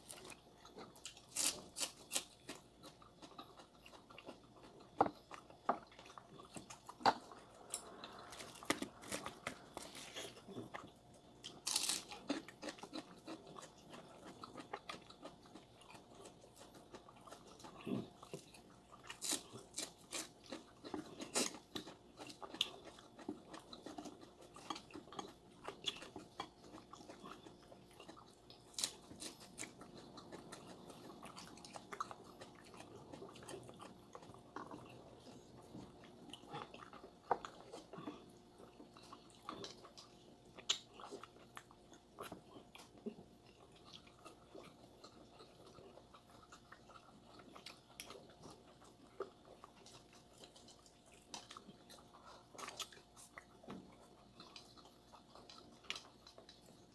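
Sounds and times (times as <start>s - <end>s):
chewing and crunching food: 0.0s - 56.9s.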